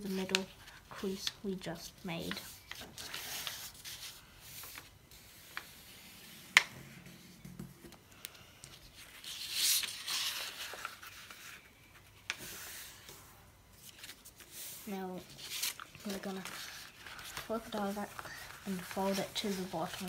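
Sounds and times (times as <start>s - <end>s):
paper rustling and sliding: 2.3s - 8.0s, 8.7s - 20.0s.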